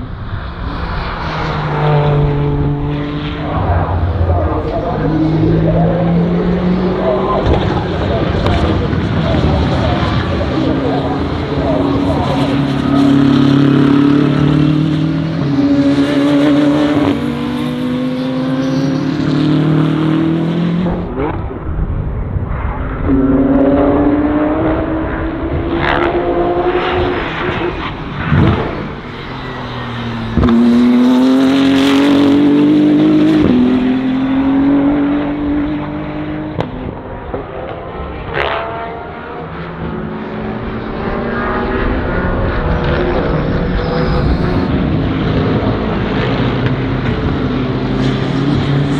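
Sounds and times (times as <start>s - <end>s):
race car engine at full throttle: 0.0s - 48.9s.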